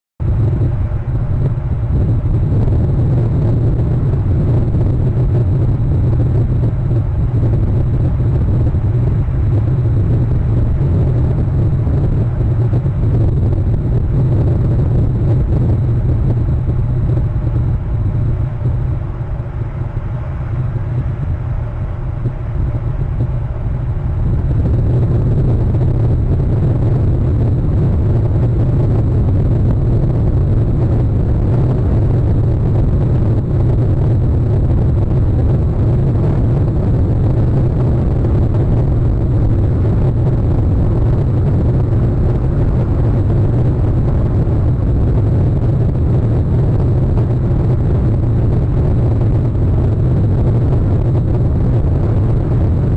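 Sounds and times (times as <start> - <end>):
wind buffeting microphone: 0.2 - 52.9.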